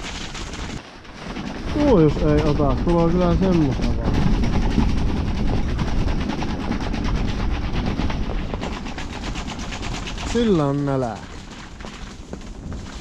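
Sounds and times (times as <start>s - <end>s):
low wind rumble: 0.0s - 13.0s
tent fabric flapping in wind: 0.0s - 13.0s.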